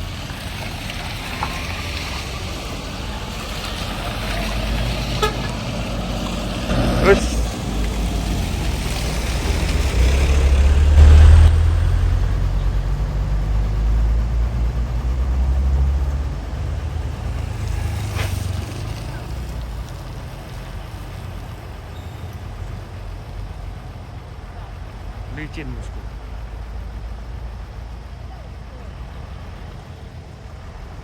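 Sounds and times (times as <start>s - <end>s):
truck passing on road: 0.0s - 31.0s.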